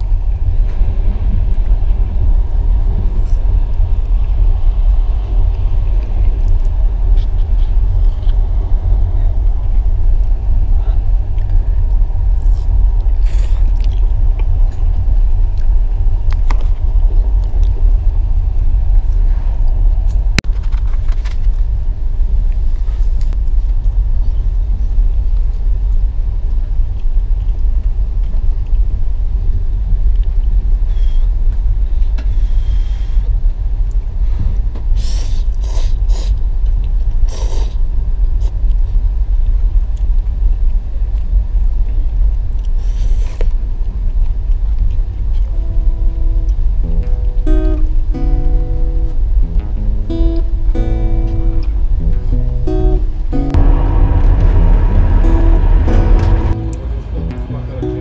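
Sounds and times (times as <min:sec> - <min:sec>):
train rumbling inside carriage: 0:00.0 - 0:58.0.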